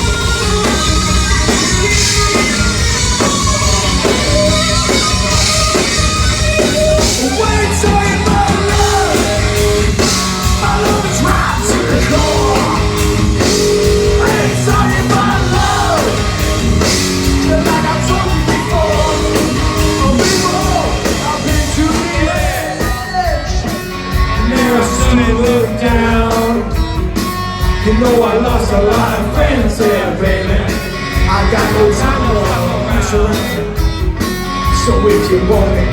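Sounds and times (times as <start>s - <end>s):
bass guitar: 0.0s - 35.9s
distorted electric guitar: 0.0s - 35.9s
drums: 0.0s - 35.9s.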